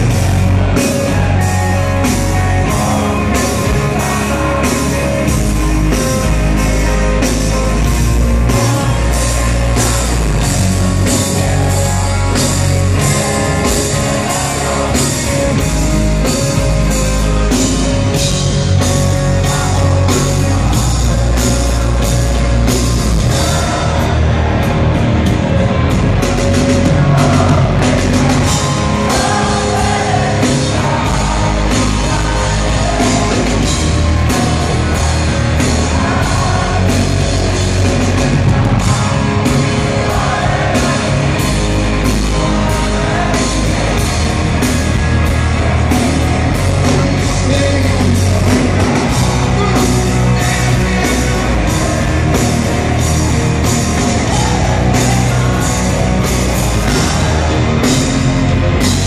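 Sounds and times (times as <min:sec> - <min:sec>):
person singing: 0:00.0 - 0:24.7, 0:26.4 - 0:58.2
drum kit steady beat: 0:00.0 - 0:59.0
electric guitar: 0:00.0 - 0:59.0.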